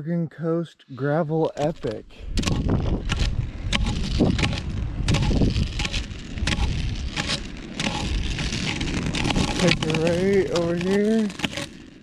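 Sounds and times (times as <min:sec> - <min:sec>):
wind buffeting microphone: 0:01.6 - 0:11.6.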